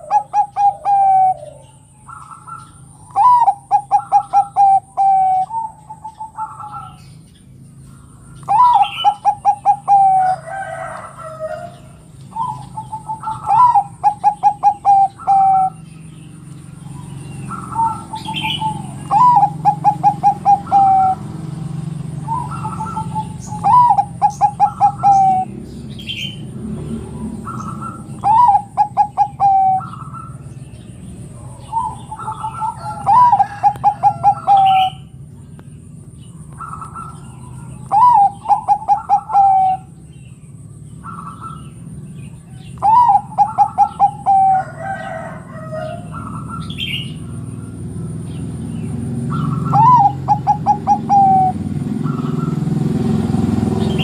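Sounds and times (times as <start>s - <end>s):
dove cooing: 0.0s - 35.4s, 36.3s - 40.1s, 40.9s - 54.0s
small birds chirping: 0.0s - 54.0s.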